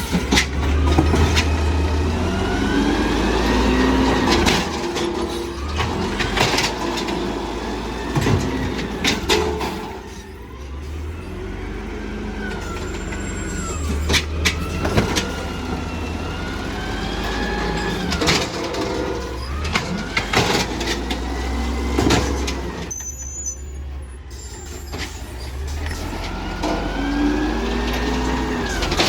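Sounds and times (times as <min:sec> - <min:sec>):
truck engine rumbling: 0:00.0 - 0:29.0.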